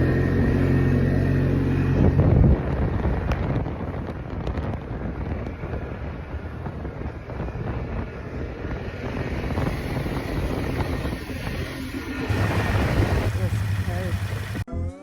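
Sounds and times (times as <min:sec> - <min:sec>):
atv engine running: 0:00.0 - 0:14.7
wind buffeting microphone: 0:00.2 - 0:14.7.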